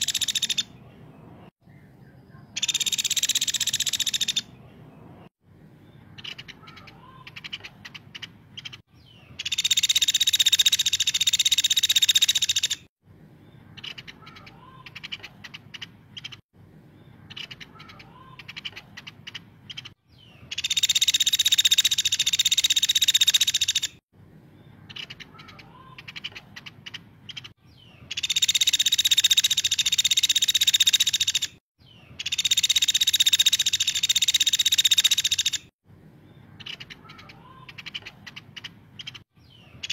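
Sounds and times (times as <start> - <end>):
woodpecker high-pitched calls: 0.0 - 0.8, 2.6 - 4.6, 6.2 - 12.9, 13.8 - 16.4, 17.3 - 24.0, 24.9 - 35.7, 36.6 - 39.9.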